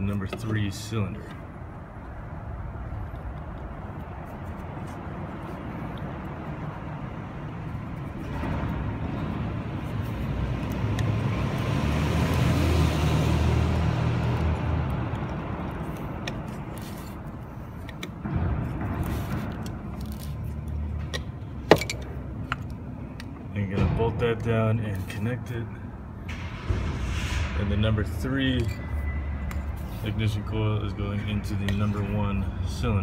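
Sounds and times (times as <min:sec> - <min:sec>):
vehicle engine rumble: 0:00.0 - 0:33.0.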